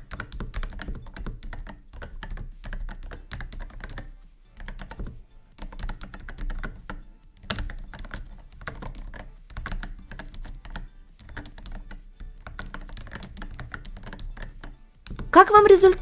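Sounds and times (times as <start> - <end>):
mechanical keyboard typing: 0.0 - 5.0, 5.6 - 16.0.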